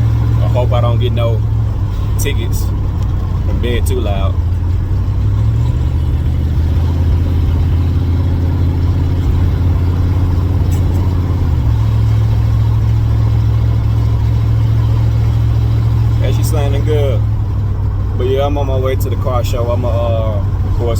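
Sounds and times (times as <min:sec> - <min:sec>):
car engine and exhaust running: 0:00.0 - 0:20.9.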